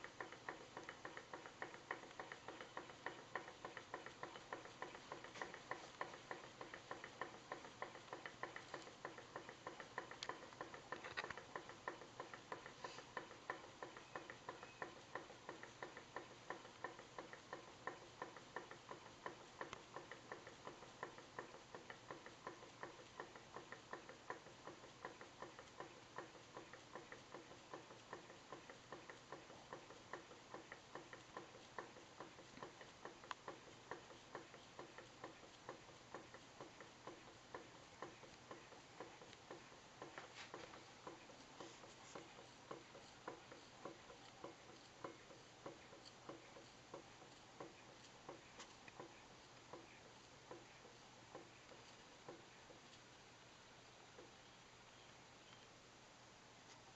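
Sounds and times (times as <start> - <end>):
model engine ticking clatter: 0.0 - 53.0.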